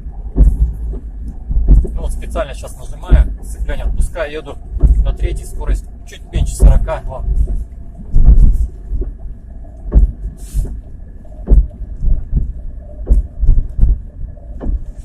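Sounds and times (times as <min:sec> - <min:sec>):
car engine hum: 0:00.0 - 0:15.0
dull driveline thumps: 0:00.0 - 0:15.0.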